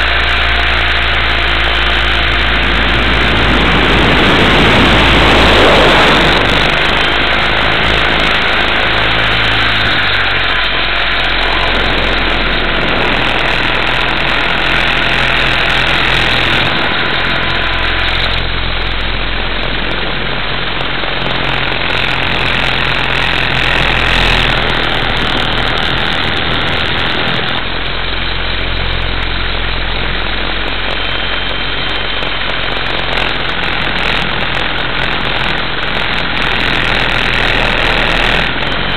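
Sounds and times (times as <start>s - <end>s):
rc helicopter motor and rotor drone: 0.0s - 38.9s.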